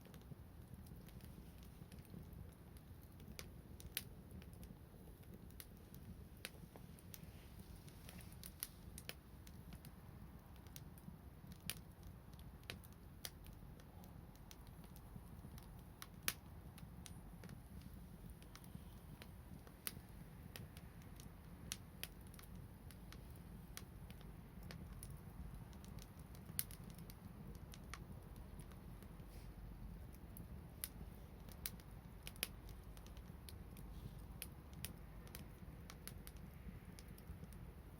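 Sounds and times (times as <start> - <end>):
low steady rumble: 0.0 - 37.9
wood fire crackling: 0.0 - 37.9.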